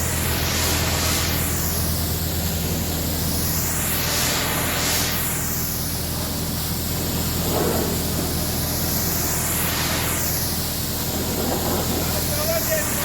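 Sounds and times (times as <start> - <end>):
low motor hum: 0.0 - 13.0
pressure washer jet spraying: 0.0 - 13.0.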